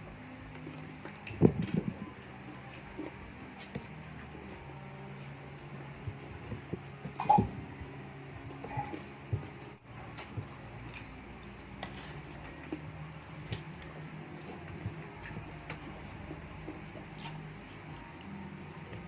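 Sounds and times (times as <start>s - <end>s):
chewing and sucking: 0.4s - 18.4s.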